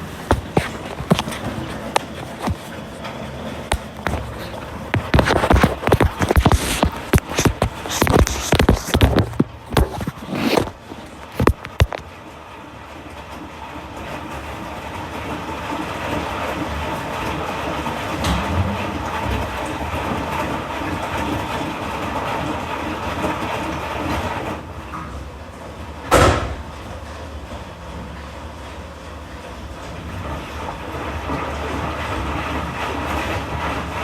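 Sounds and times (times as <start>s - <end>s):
washing machine churning rattle: 0.0s - 34.0s.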